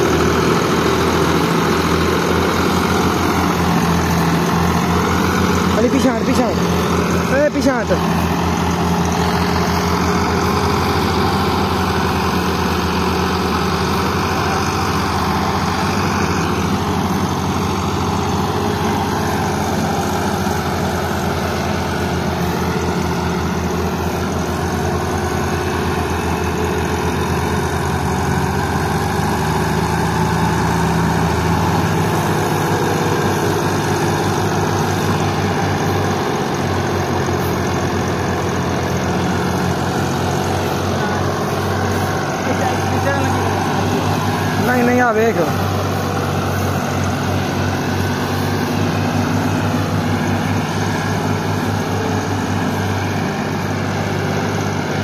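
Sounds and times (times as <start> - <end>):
diesel engines labouring: 0.0 - 55.0.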